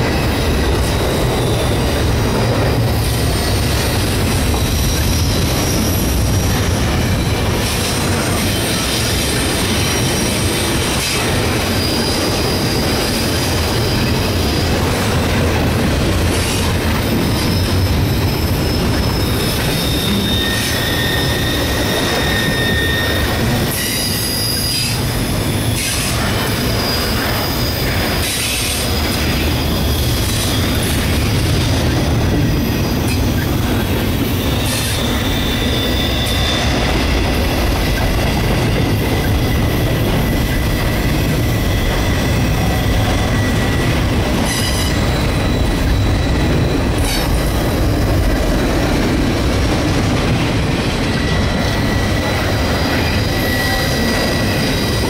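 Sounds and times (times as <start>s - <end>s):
high wheel squeal: 0.0s - 49.6s, 50.3s - 55.0s
train wheels rumbling on rail: 0.0s - 55.0s.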